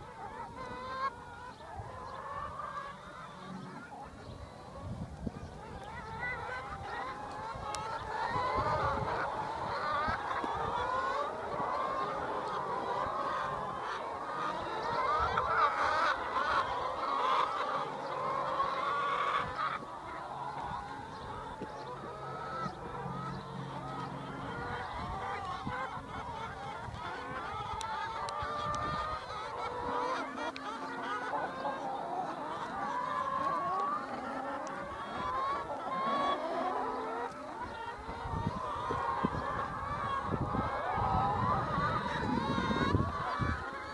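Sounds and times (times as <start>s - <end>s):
flock of hens calling: 0.0s - 43.9s.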